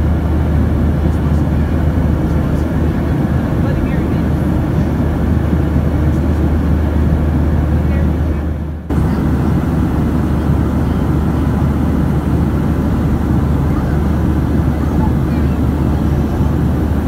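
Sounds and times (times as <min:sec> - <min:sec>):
airflow rushing in cabin: 0:00.0 - 0:17.0
low engine hum: 0:00.0 - 0:17.0.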